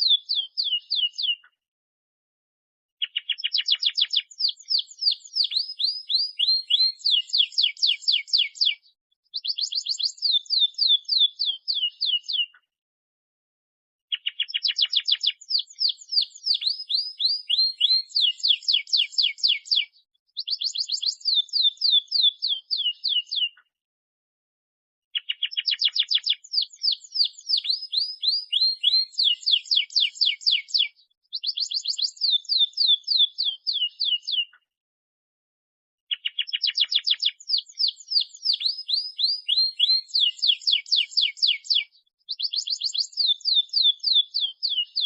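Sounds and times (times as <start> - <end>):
canary singing trills: 0.0 - 1.5, 3.0 - 12.6, 14.1 - 23.6, 25.2 - 34.6, 36.1 - 45.0.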